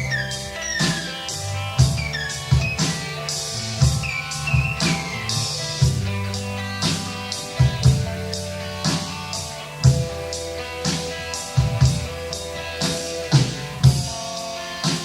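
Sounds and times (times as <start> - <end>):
drum kit slow beat: 0.0 - 15.0
electric guitar chords: 0.0 - 15.0.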